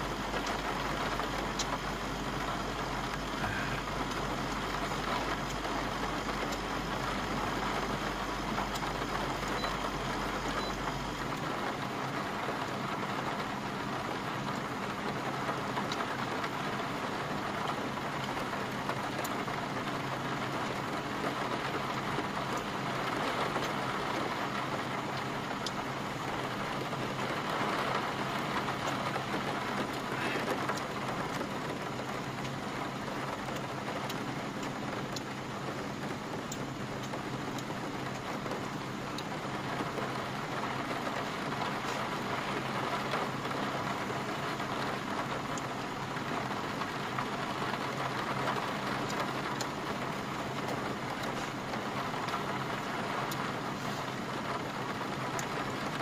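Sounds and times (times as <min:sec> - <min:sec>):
heavy rain on van roof: 0:00.0 - 0:56.0.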